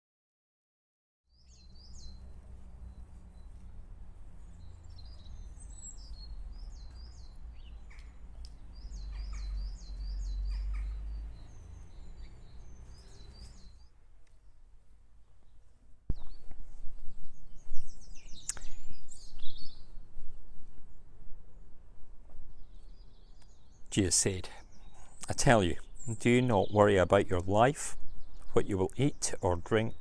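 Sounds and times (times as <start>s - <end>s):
small birds chirping: 1.3s - 30.0s.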